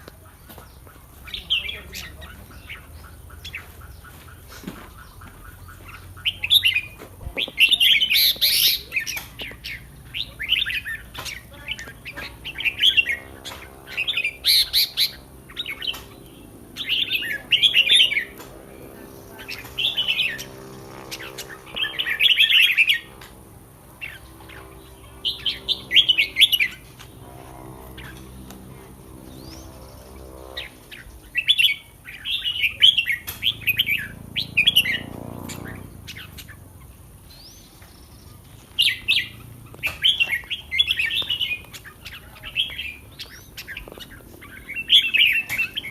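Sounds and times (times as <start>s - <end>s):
bird singing warbled phrases: 0.0s - 45.9s.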